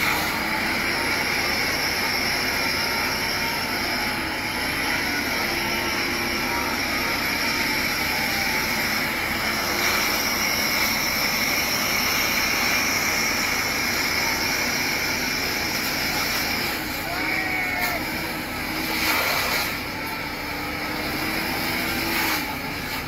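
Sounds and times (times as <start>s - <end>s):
high-pressure water jet roaring: 0.0s - 23.0s.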